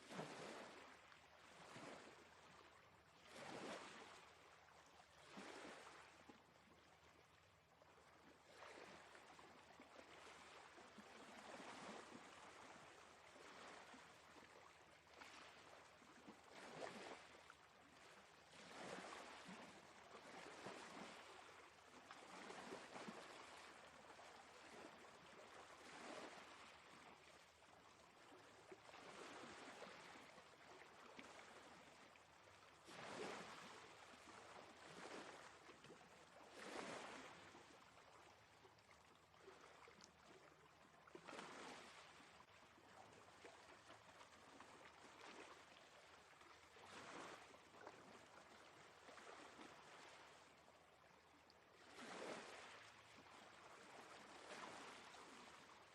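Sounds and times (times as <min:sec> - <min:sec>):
quiet sea waves washing ashore: 0:00.0 - 0:55.9.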